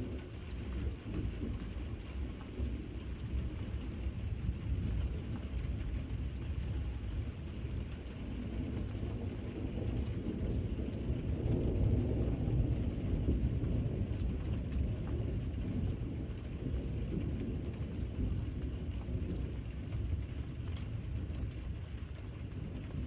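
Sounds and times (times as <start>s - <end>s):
rolling thunder: 0.0s - 23.0s
steady rain: 0.0s - 23.0s.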